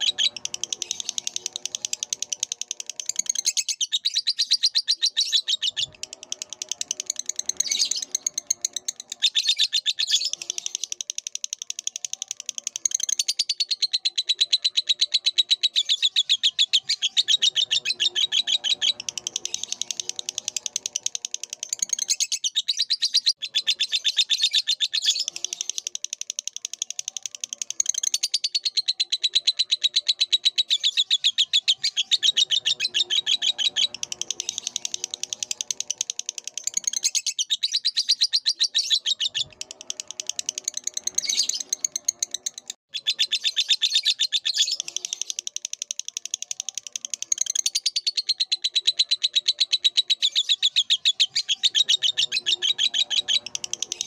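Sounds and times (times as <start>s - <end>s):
lovebird chattering song: 0.0s - 54.0s.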